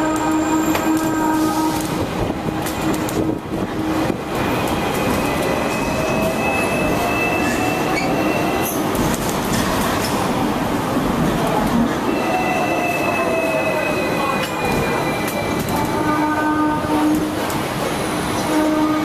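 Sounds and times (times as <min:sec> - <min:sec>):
tram rumbling on tracks: 0:00.0 - 0:19.0.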